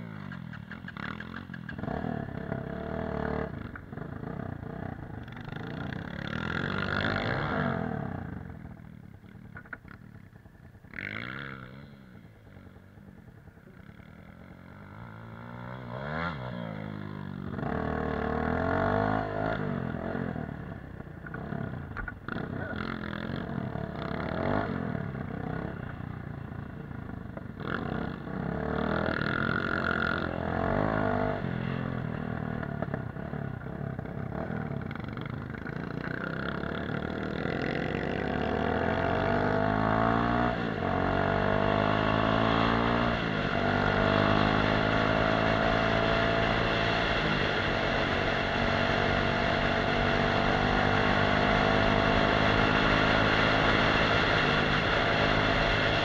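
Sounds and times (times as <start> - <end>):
off-road motorcycle engine revving: 0.0 - 10.2, 10.8 - 56.0.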